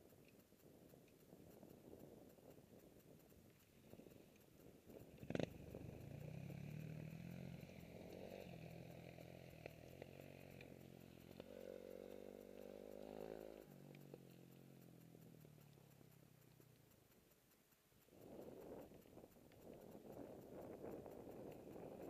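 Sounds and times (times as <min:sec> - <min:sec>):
faint dirt bike engine: 0:00.0 - 0:22.0.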